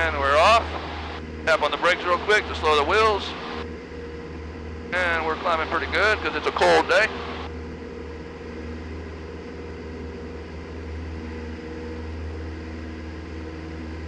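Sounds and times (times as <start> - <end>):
propeller engine drone: 0.0 - 14.0.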